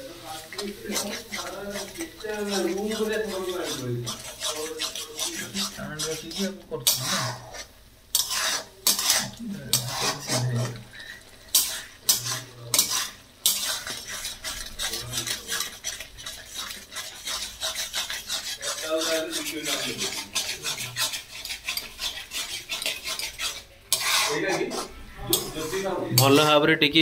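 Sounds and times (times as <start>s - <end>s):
metal spatula scraping iron pan: 0.0s - 26.5s.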